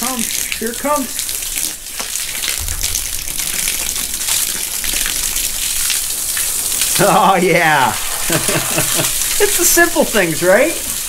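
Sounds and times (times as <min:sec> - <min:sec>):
water gushing from hose: 0:00.0 - 0:11.0
water splashing on floor: 0:00.0 - 0:11.0.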